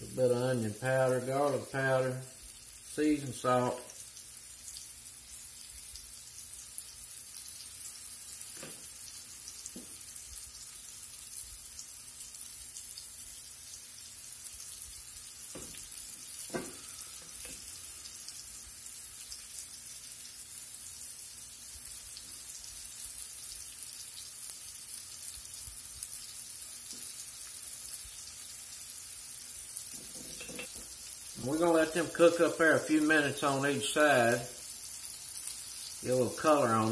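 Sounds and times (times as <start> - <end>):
steaks sizzling in a skillet: 0.0 - 36.9.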